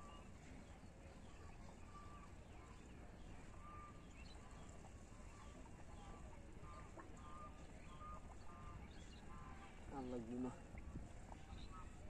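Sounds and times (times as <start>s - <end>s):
faint bird calls and chirps: 0.0s - 12.0s.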